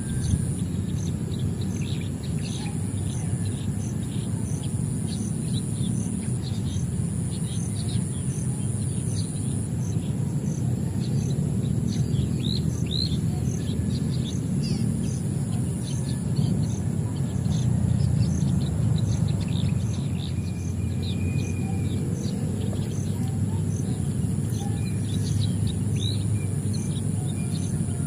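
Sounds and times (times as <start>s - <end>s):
high insect drone with ticking: 0.0s - 28.0s
low background rumble: 0.0s - 28.0s
small birds chirping: 0.0s - 28.0s.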